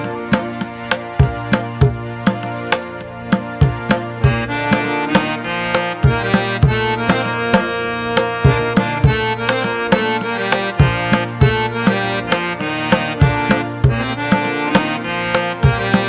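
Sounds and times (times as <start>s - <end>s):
sustained held melody: 0.0s - 16.0s
tabla drumming: 0.0s - 16.0s.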